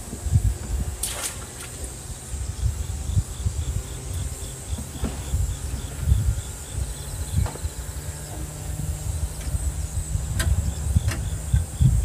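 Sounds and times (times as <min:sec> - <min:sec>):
steady high buzz: 0:00.0 - 0:12.0
wind rumble on microphone: 0:00.0 - 0:12.0
insect chirping: 0:00.3 - 0:12.0.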